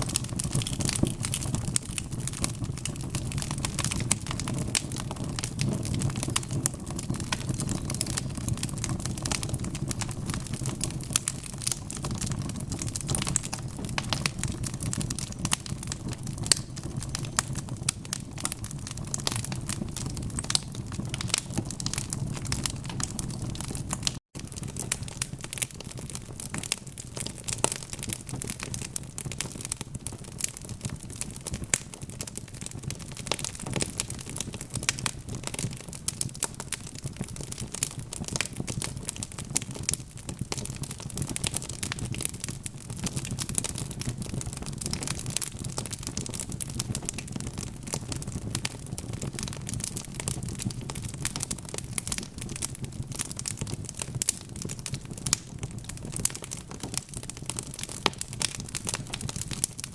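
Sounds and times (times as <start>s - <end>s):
log fire crackling: 0.0s - 59.9s.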